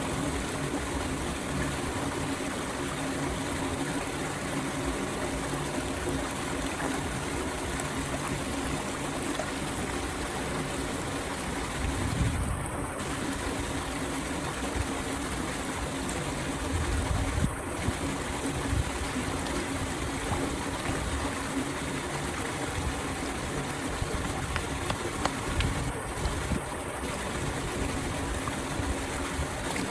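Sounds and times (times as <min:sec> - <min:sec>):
water flowing into storm drain: 0:00.0 - 0:29.9.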